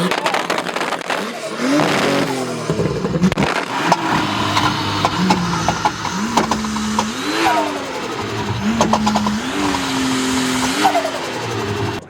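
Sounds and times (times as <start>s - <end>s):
exhaust pops and crackles: 0.0s - 12.0s
car engine revving: 1.1s - 12.0s.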